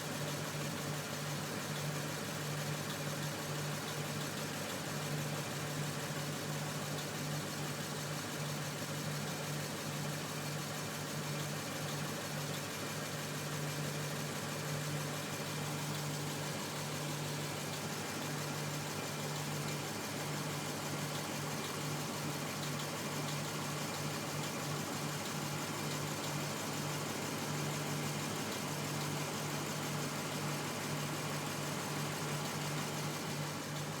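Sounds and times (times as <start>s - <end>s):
car engine idling with knock: 0.0s - 34.0s.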